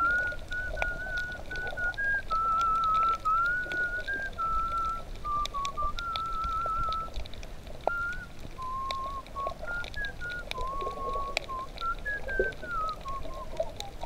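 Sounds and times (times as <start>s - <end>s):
whistled melody: 0.0s - 7.2s, 7.8s - 14.0s
light clicks: 0.0s - 14.0s.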